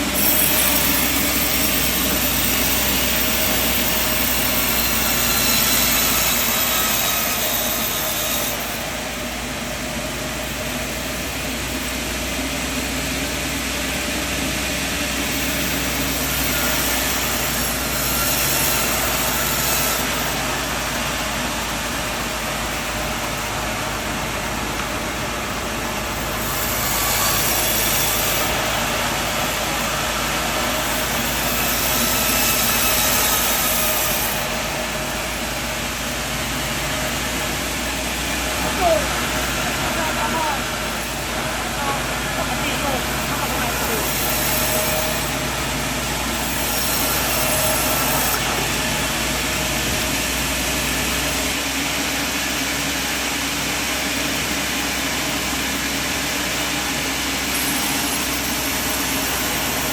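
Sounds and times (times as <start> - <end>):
broad machinery hiss: 0.0 - 59.9
sawmill machinery hum: 0.0 - 59.9.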